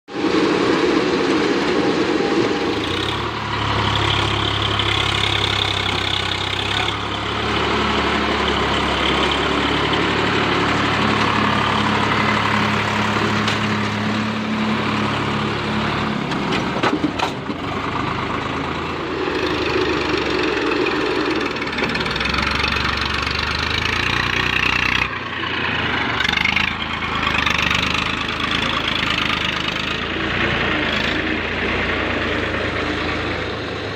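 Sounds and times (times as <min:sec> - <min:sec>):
diesel tractor engine running: 0:00.1 - 0:33.9.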